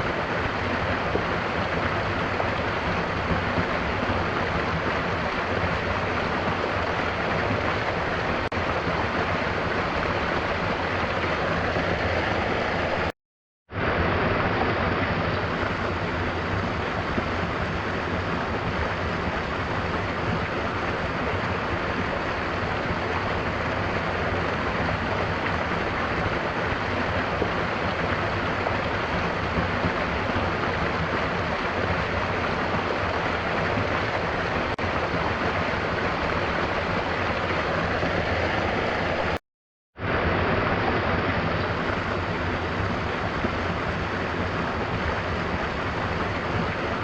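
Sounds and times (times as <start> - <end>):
waterfall rushing: 0.0 - 13.1, 13.8 - 39.4, 40.0 - 47.0.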